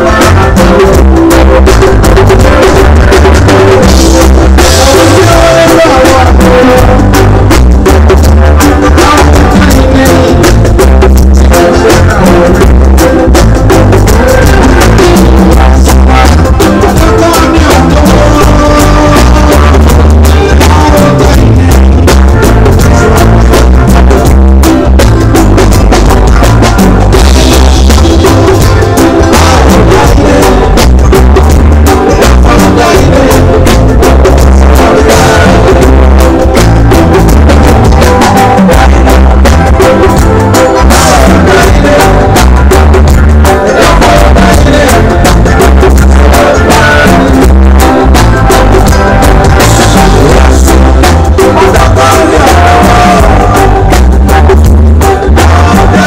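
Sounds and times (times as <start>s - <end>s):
man singing into a microphone: 0.0s - 24.9s, 27.1s - 56.0s
live highlife band: 0.0s - 56.0s.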